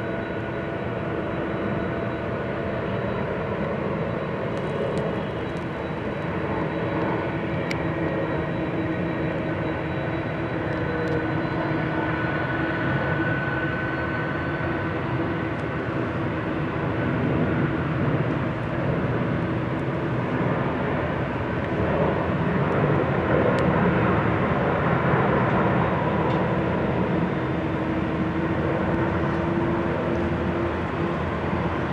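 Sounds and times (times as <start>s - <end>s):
jet engine rumble with held tone: 0.0s - 31.9s.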